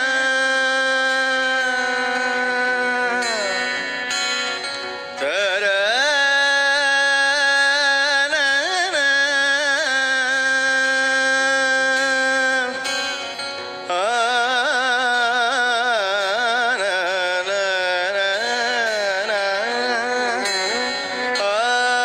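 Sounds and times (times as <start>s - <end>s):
man singing without words: 0.0s - 22.0s.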